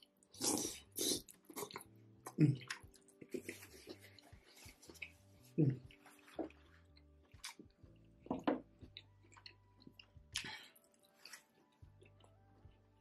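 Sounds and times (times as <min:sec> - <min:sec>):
close chewing and mouth sounds: 0:00.0 - 0:13.0.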